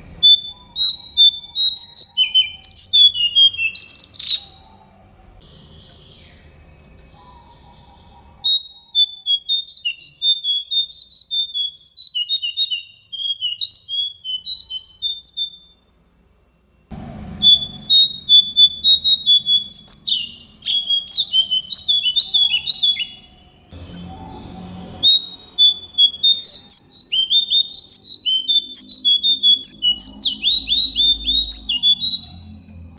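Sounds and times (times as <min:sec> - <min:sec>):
songbird singing: 0:00.0 - 0:32.9.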